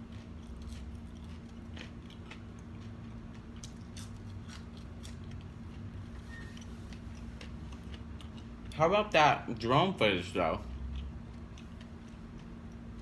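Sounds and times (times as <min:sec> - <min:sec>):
crunchy chewing of fries: 0:00.0 - 0:13.0
steady low hum: 0:00.0 - 0:13.0.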